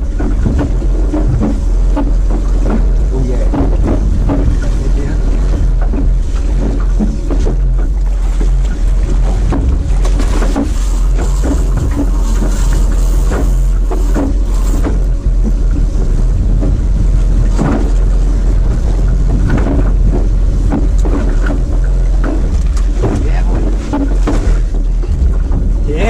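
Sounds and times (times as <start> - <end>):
wind buffeting microphone: 0.0 - 26.0
knocks and clatter on deck: 0.1 - 12.5, 16.5 - 25.9.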